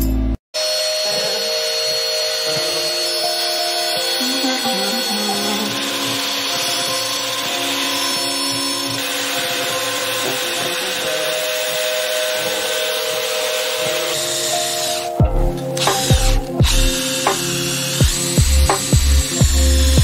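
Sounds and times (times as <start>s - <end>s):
electric router cutting wood: 0.6s - 20.0s.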